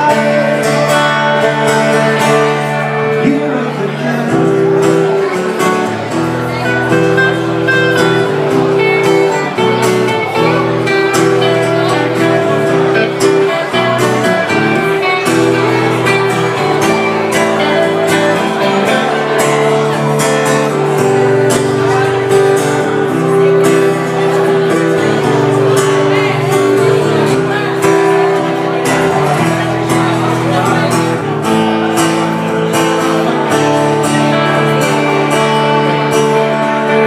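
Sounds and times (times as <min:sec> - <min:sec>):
acoustic guitar strumming: 0:00.0 - 0:37.0
electric guitar melody: 0:00.0 - 0:37.0.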